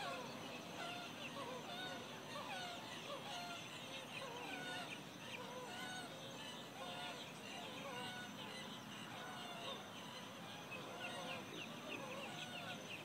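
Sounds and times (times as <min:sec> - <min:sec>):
birds whistling calls: 0:00.0 - 0:13.0
low steady hiss: 0:00.0 - 0:13.0.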